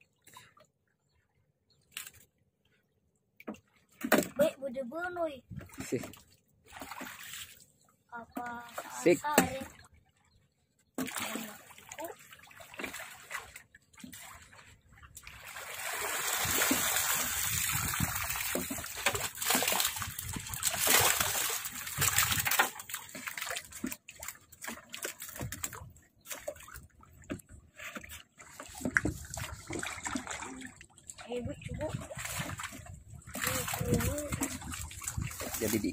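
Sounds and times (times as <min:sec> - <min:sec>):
water splashing and sloshing: 0:00.0 - 0:35.9.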